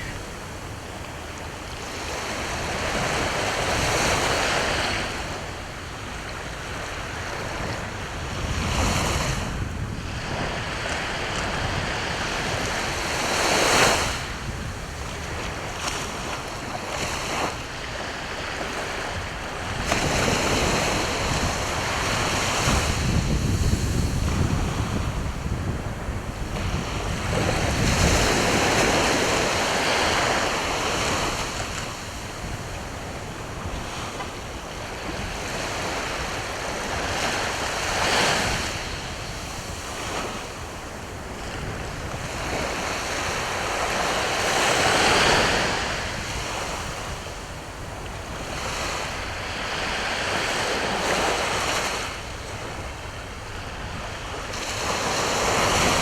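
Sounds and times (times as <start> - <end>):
sea waves breaking on shore: 0.0 - 56.0
wind rumble on microphone: 0.0 - 56.0.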